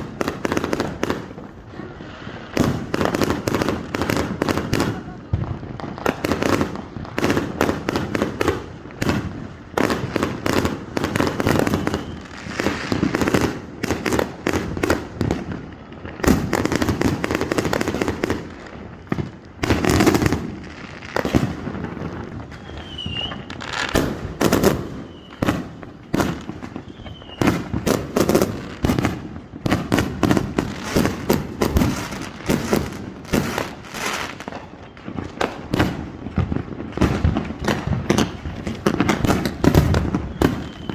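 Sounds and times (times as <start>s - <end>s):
fireworks bangs and crackles: 0.0s - 40.9s
loud fireworks booms: 0.0s - 40.9s.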